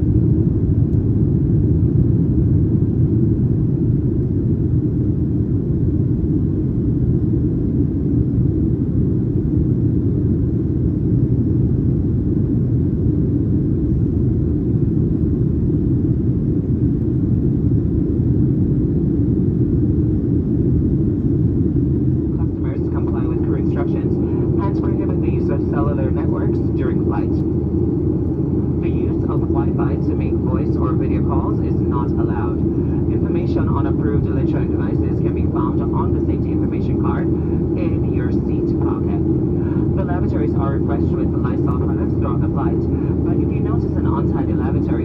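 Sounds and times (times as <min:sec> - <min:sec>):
airplane cabin rumble: 0:00.0 - 0:45.0.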